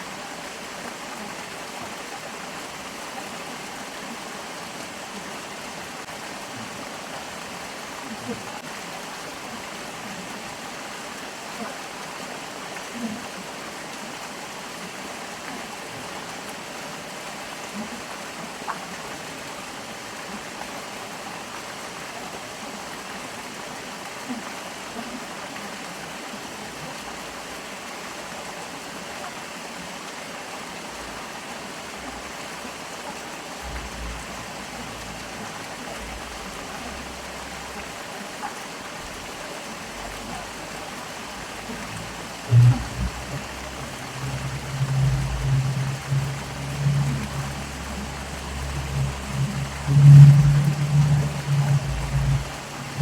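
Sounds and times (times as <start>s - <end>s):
stream flowing: 0.0s - 53.0s
water gurgles and splashes: 0.0s - 53.0s.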